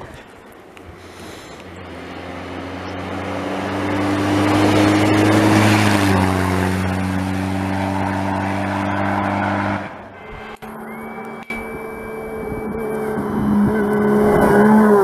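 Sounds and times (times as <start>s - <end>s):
tyres rushing on snow: 0.0s - 15.0s
pickup truck engine passing by: 1.7s - 15.0s.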